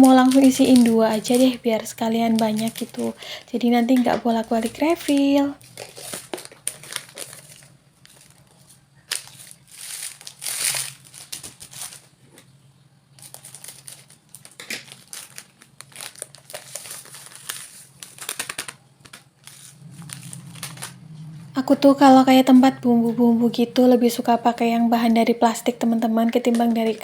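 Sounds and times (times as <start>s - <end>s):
plastic packets crinkling: 0.0s - 12.5s, 13.2s - 21.0s, 23.6s - 27.0s.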